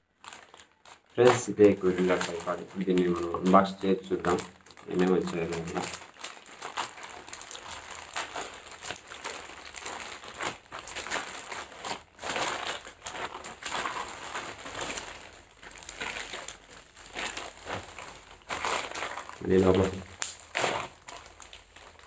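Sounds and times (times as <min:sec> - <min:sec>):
plastic mailer bag crinkling: 0:00.2 - 0:22.0.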